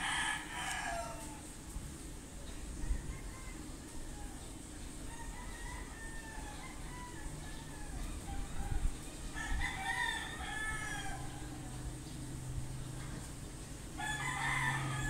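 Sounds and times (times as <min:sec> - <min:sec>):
roosters crowing: 0:00.0 - 0:01.8, 0:02.6 - 0:15.0
background hiss: 0:00.0 - 0:15.0.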